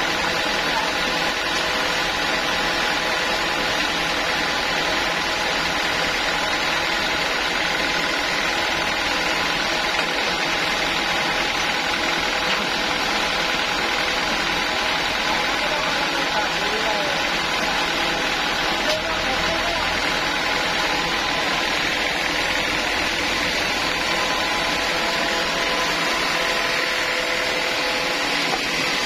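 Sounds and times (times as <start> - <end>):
sawmill machine drone: 0.0 - 29.0.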